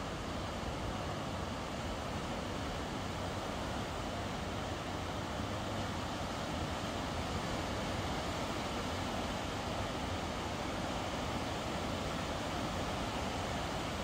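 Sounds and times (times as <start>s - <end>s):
river roaring in flood: 0.0s - 14.0s.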